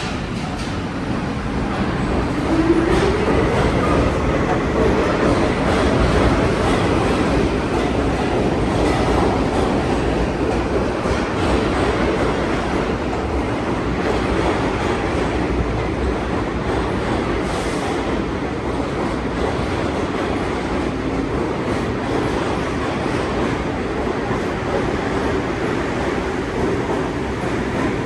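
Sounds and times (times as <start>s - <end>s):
subway train running: 0.0s - 28.0s.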